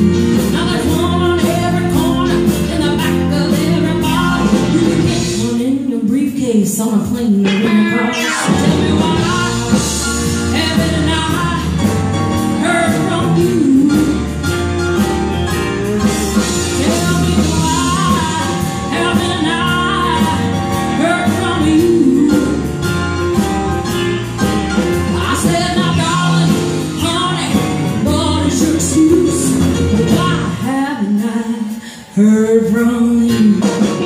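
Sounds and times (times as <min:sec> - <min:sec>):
woman singing into a microphone: 0:00.0 - 0:11.8, 0:12.6 - 0:14.4, 0:16.4 - 0:22.8, 0:25.1 - 0:34.0
live band with guitar and drums: 0:00.0 - 0:34.0.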